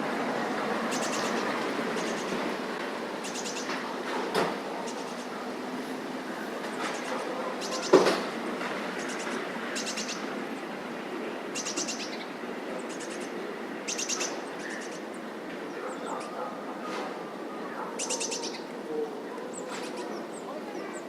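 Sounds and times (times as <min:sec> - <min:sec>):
outdoor background noise: 0:00.0 - 0:21.0
small birds chirping: 0:00.4 - 0:04.0, 0:04.6 - 0:05.6, 0:06.4 - 0:16.5, 0:17.6 - 0:21.0.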